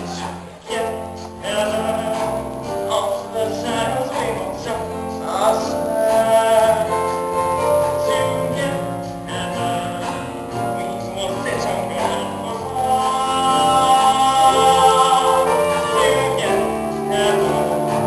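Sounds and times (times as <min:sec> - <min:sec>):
show tune instrumental accompaniment: 0:00.0 - 0:18.0.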